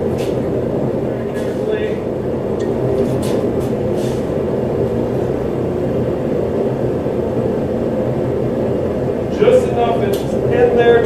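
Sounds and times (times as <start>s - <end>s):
forge burner rushing rumble: 0.0s - 11.0s.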